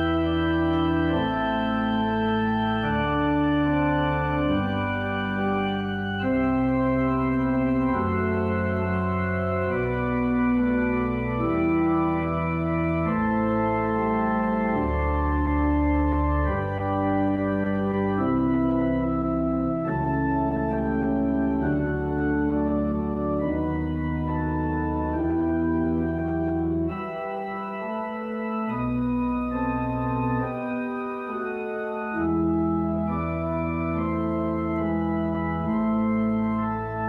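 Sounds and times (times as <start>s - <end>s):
organ playing held chords: 0.0s - 37.0s.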